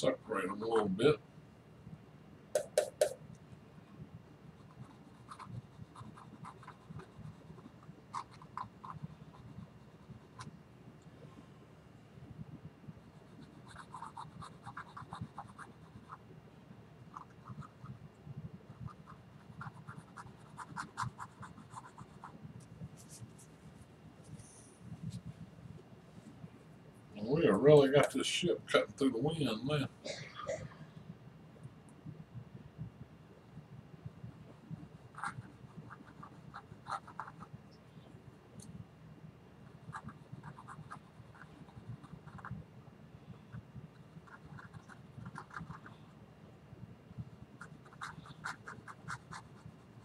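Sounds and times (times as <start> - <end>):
low room hum: 0.0 - 50.0.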